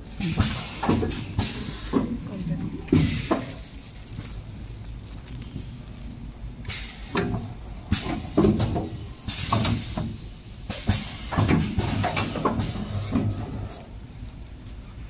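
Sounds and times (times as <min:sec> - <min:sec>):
hissing and rustling of plastic film: 0:00.0 - 0:15.0.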